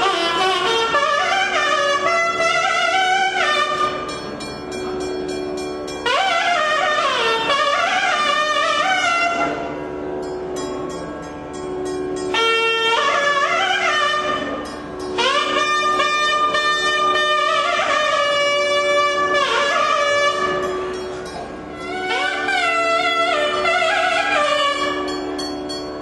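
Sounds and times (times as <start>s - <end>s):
double-reed horn melody: 0.0s - 4.4s, 5.9s - 10.2s, 12.1s - 25.5s
steady drone note: 0.0s - 26.0s.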